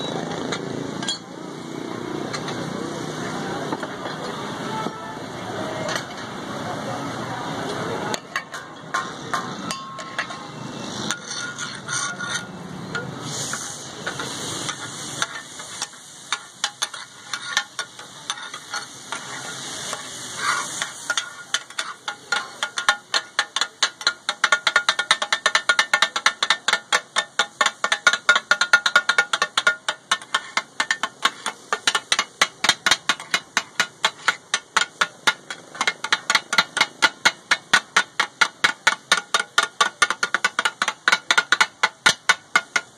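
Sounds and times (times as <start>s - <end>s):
sizzling: 0.1s - 42.9s
metal spatulas striking a griddle: 8.1s - 42.9s.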